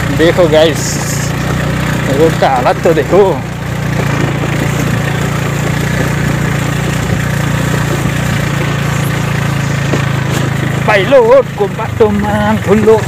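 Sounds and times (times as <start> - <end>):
scooter engine humming: 0.0 - 13.0.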